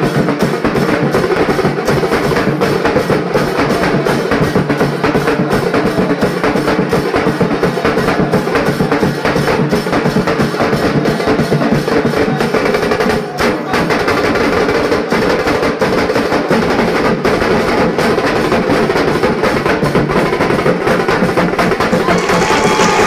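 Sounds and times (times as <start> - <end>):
drum and percussion music: 0.0 - 23.0.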